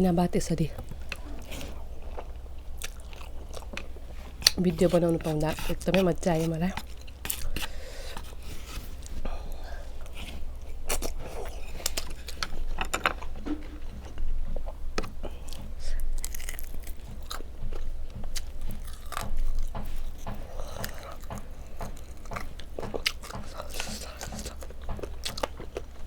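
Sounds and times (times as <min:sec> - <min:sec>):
person chewing and crunching: 0:00.8 - 0:26.0.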